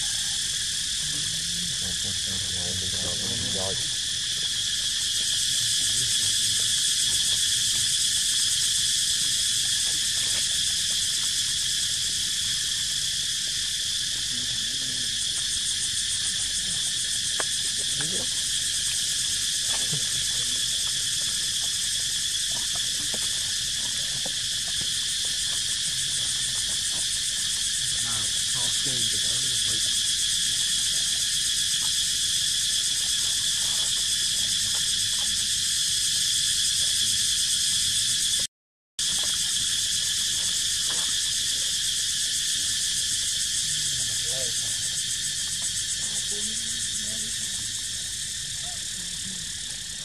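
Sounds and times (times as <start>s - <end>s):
insects buzzing: 0.0s - 50.0s.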